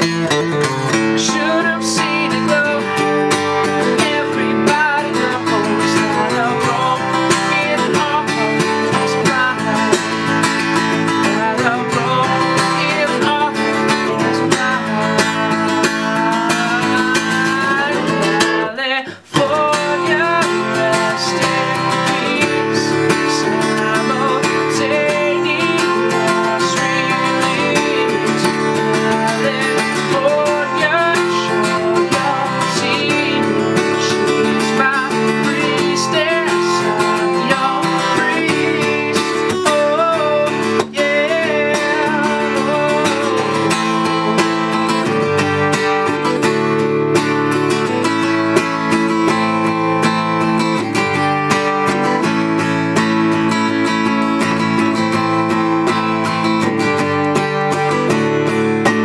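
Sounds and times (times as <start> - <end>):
man singing: 0.0 - 59.0
strummed acoustic guitar: 0.0 - 59.0.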